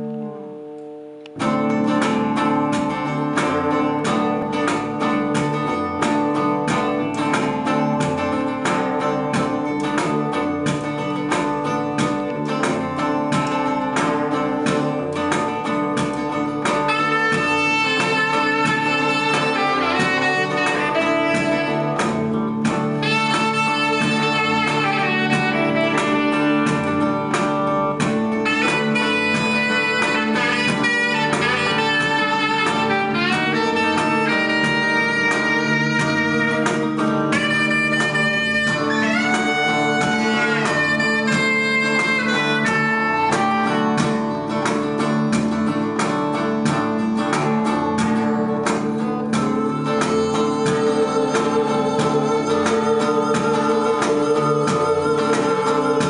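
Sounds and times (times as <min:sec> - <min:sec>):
electric guitars accompaniment: 0:00.0 - 0:56.0
saxophone melody: 0:00.0 - 0:56.0.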